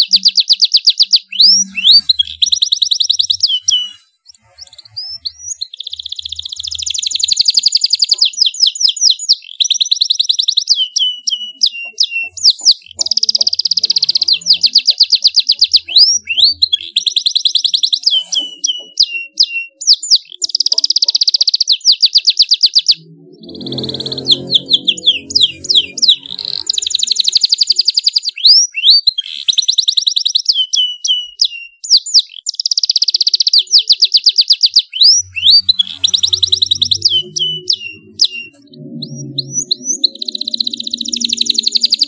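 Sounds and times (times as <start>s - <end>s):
canary trilling song: 0.0s - 42.0s.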